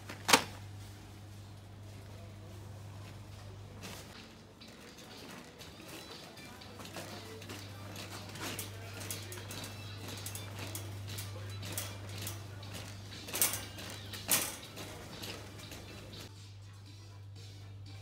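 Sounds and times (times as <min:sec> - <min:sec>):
shopping cart rattling: 0:00.0 - 0:16.3.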